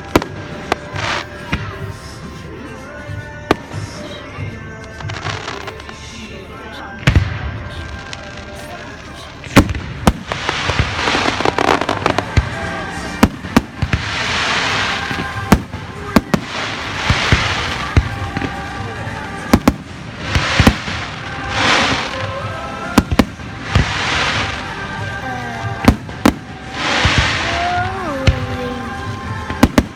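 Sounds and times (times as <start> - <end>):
fireworks bangs: 0.0 - 2.3, 3.1 - 29.9
fireworks hissing: 0.0 - 29.9.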